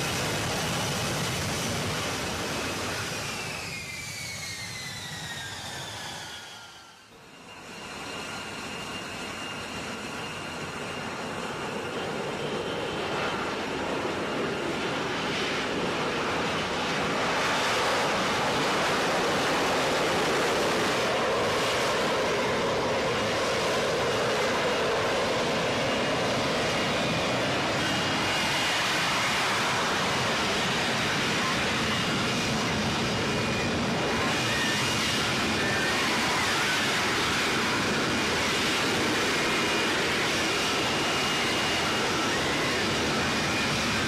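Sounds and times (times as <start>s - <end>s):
jet engine roaring: 0.0s - 44.0s.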